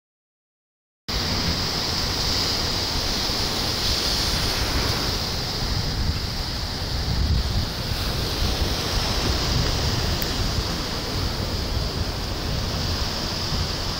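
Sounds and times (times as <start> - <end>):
small waves breaking on sand: 1.1 - 13.9
wind buffeting microphone: 1.1 - 13.9.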